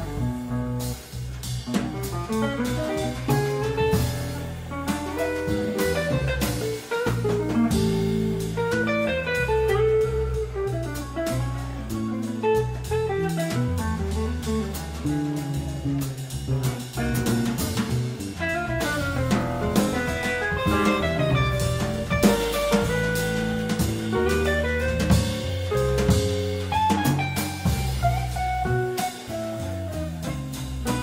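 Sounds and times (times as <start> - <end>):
drum kit with cymbals: 0.0 - 31.0
walking electric bass line: 0.0 - 31.0.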